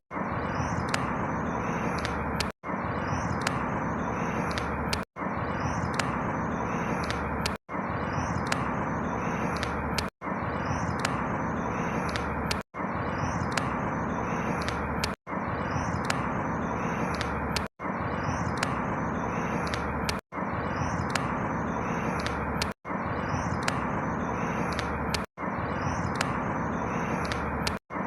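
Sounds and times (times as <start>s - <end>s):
outdoor ambient noise: 0.1s - 28.0s.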